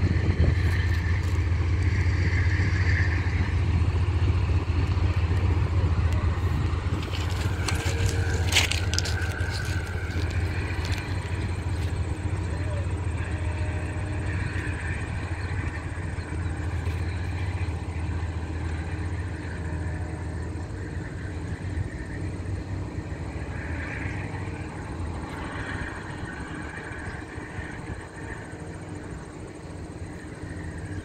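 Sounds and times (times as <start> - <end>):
passenger train rumbling away: 0.0 - 31.0.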